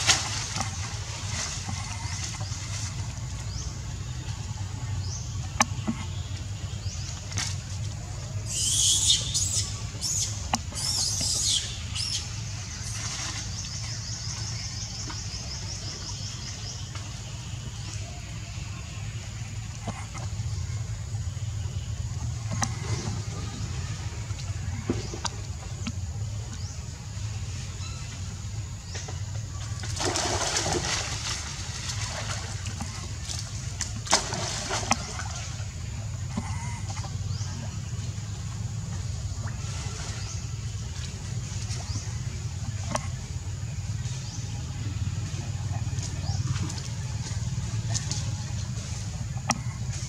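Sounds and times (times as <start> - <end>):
steady low rumble: 0.0 - 50.0
water splashing and sloshing: 0.0 - 50.0.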